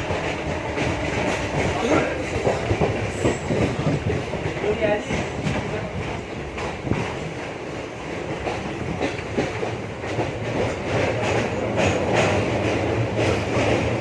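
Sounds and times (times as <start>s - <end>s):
train wheels clacking over rail joints: 0.0s - 14.0s.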